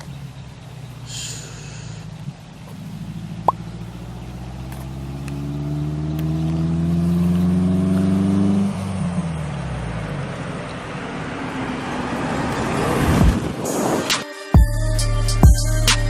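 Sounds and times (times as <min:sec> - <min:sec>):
car engine accelerating: 0:00.0 - 0:14.1.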